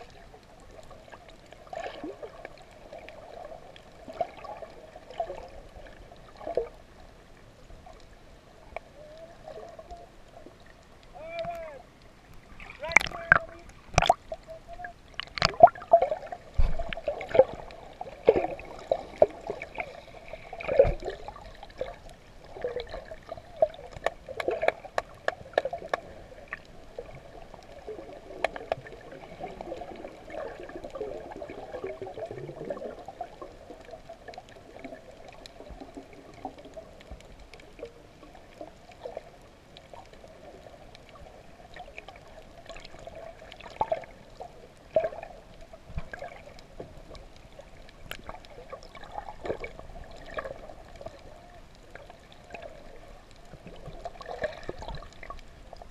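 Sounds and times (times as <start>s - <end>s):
muffled underwater wash: 0.0s - 55.9s
water splashing and gurgling: 0.0s - 55.9s.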